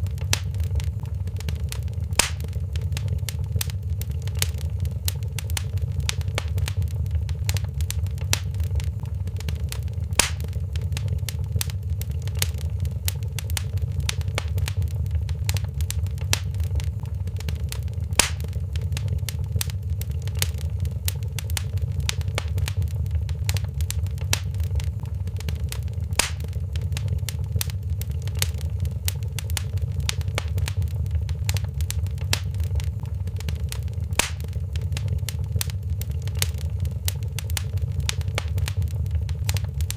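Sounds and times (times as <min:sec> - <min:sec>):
loud fire snaps: 0:00.0 - 0:39.9
wood fire crackling: 0:00.0 - 0:39.9.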